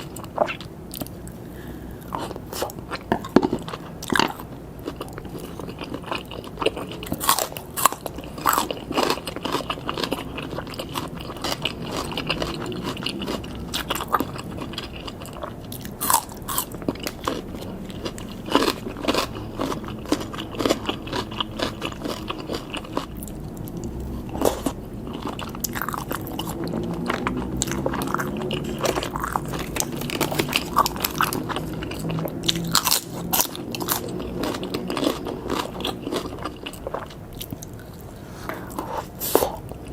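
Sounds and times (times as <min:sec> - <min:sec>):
chewing with crunches: 0:00.0 - 0:39.9.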